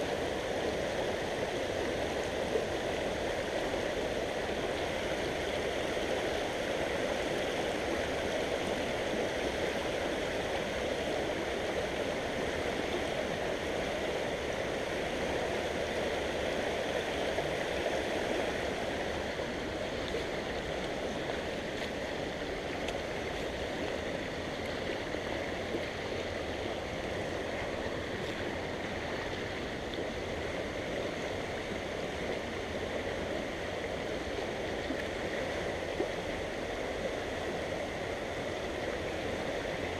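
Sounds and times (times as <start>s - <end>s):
creek water rushing over riffles: 0.0s - 39.9s.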